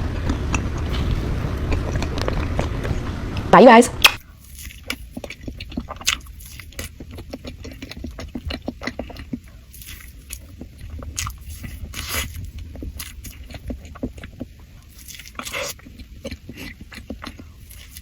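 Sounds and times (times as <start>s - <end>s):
person chewing: 0.1s - 3.1s, 4.1s - 18.0s.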